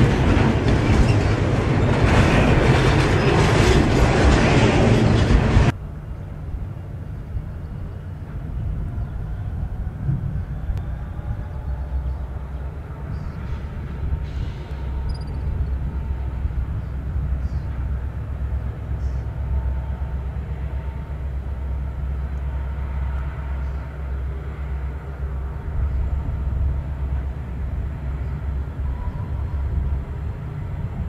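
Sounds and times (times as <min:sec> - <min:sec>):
freight train rumble: 0:00.0 - 0:31.0.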